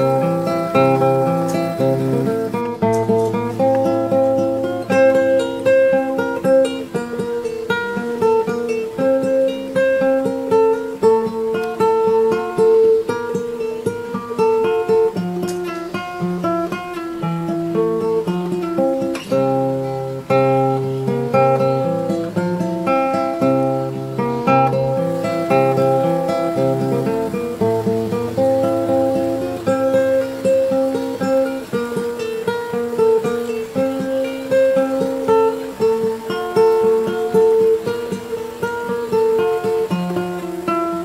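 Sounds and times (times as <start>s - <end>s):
plucked and struck melody: 0.0s - 41.0s.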